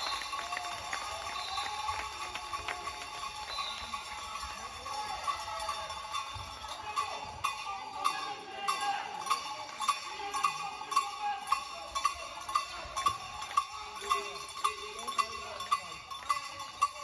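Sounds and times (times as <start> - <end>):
cowbell ringing: 0.0 - 17.0.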